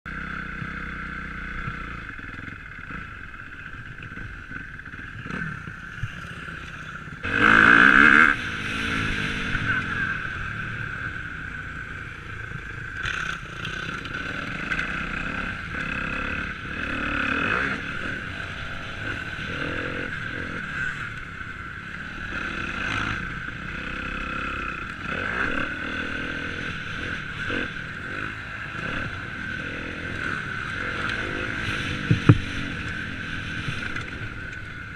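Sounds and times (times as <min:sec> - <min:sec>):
motocross bikes revving: 0:00.1 - 0:34.9.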